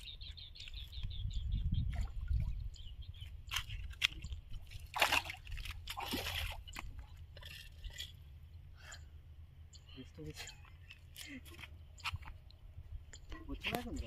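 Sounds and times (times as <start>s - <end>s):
water splashing and sloshing: 0.6s - 8.7s, 10.6s - 14.0s.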